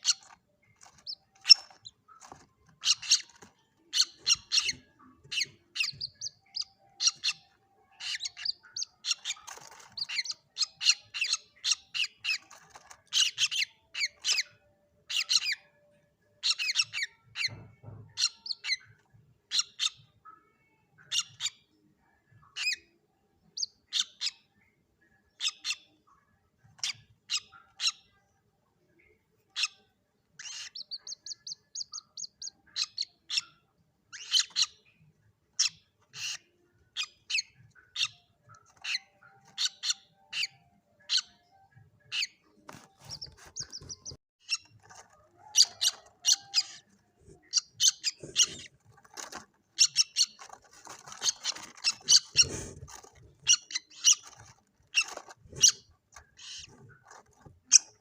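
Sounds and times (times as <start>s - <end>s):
moorhen chicks peeping: 0.0s - 15.8s, 16.4s - 28.3s, 29.0s - 58.0s.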